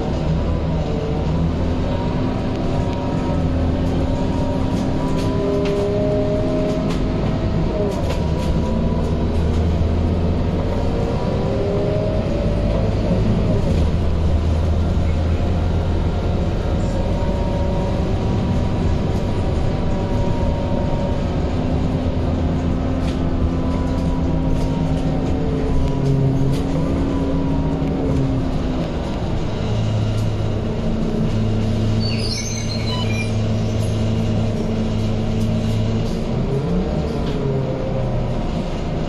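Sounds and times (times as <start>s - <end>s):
bus diesel engine drone: 0.0s - 39.0s.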